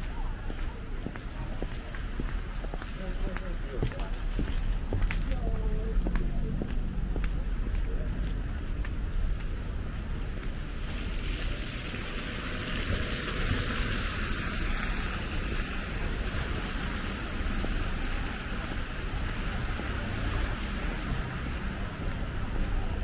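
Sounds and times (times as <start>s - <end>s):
low rumble: 4.2s - 23.0s.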